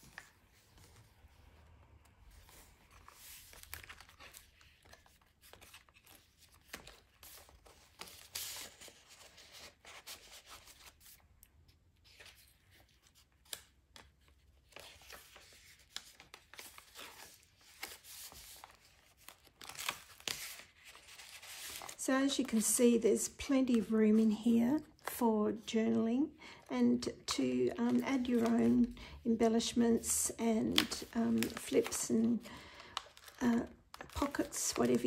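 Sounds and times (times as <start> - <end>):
paper pages rustling: 0.0 - 25.2, 27.6 - 29.0, 29.6 - 35.0.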